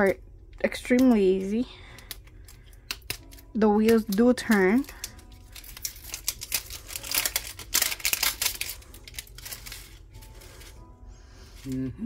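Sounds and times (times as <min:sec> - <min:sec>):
plastic toy clicking and rattling: 0:00.6 - 0:10.7.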